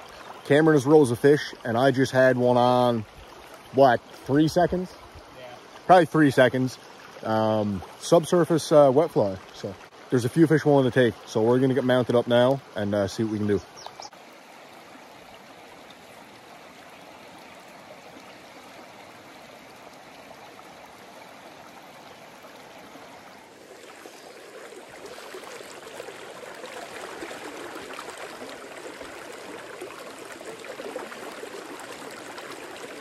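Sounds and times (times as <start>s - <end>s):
river water rushing: 0.0s - 10.3s, 13.7s - 33.0s.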